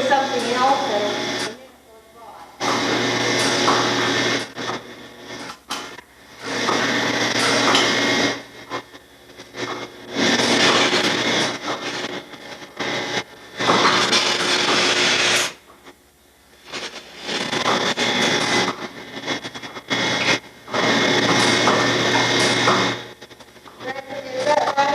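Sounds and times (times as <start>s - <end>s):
low vacuum system hum: 0.0s - 24.9s.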